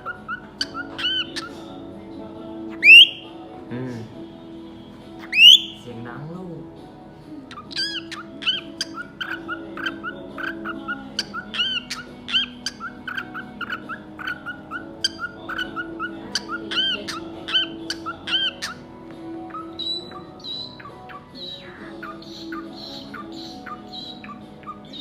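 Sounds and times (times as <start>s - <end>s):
cockatiel chirping: 0.0s - 1.8s, 2.6s - 3.3s, 5.2s - 5.9s, 7.5s - 25.0s
background music: 0.0s - 25.0s.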